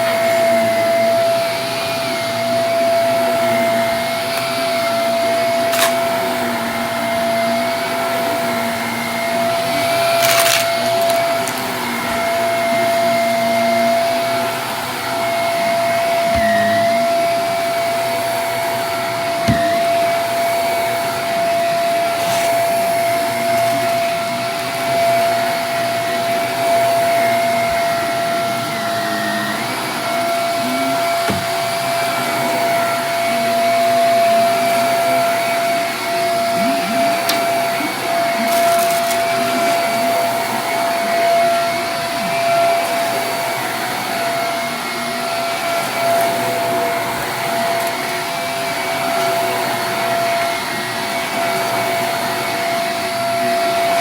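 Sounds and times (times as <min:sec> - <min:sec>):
vacuum cleaner whining: 0:00.0 - 0:54.0.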